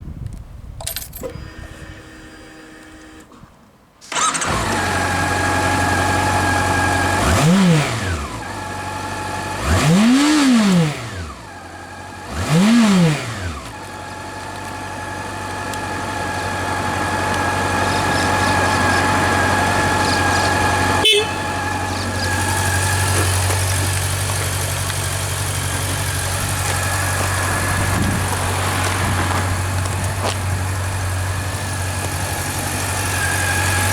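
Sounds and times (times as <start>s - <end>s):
motorcycle engine starting and revving: 4.0s - 33.9s.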